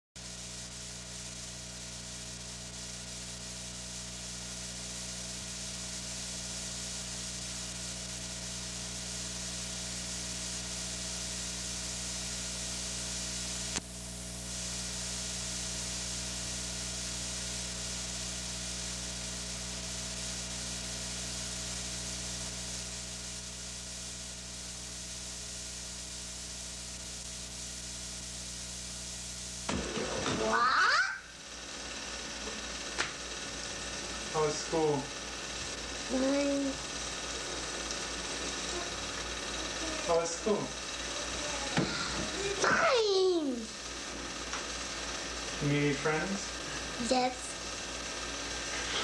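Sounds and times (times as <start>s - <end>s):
low electrical hum: 0.2s - 49.0s
tape hiss: 0.2s - 49.0s.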